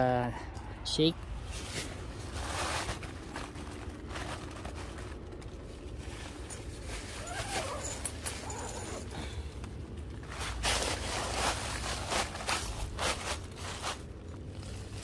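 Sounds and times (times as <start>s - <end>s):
tent fabric rustling: 1.4s - 9.4s, 10.1s - 15.0s.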